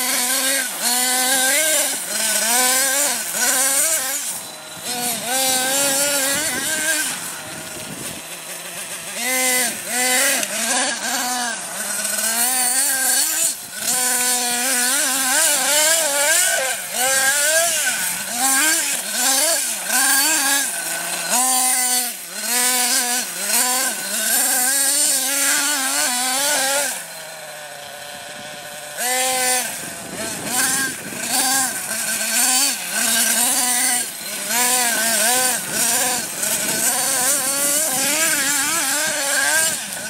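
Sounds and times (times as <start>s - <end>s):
rc truck nitro engine revving: 0.0s - 40.0s.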